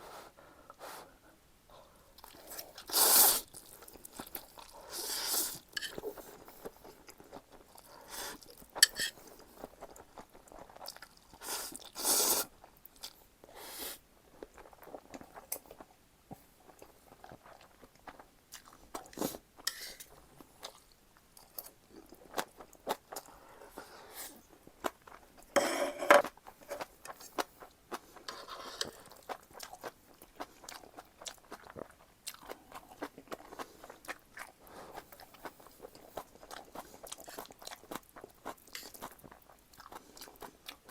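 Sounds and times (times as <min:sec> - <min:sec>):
chewing and crunching: 0:02.2 - 0:12.0, 0:14.3 - 0:25.6, 0:26.2 - 0:40.9.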